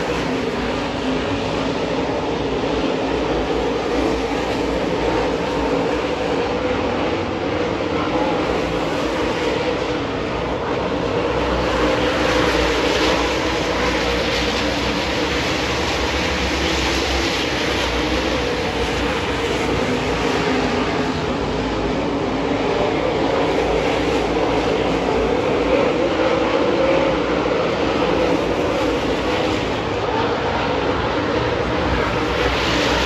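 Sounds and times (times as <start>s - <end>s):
race car engines at speed: 0.0s - 33.0s.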